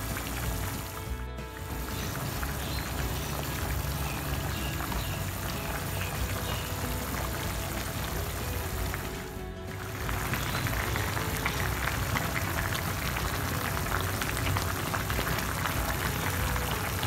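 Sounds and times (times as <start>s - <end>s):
broth bubbling in a pan: 0.0s - 17.0s
faint background music: 0.0s - 17.0s.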